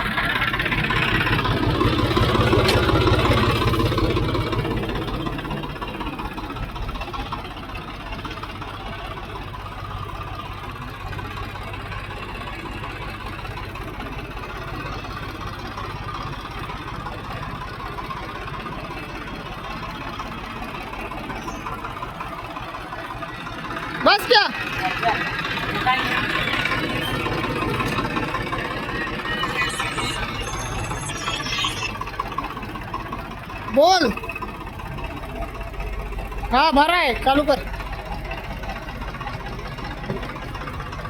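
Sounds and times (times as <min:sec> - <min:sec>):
tractor engine idling: 0:00.0 - 0:41.0.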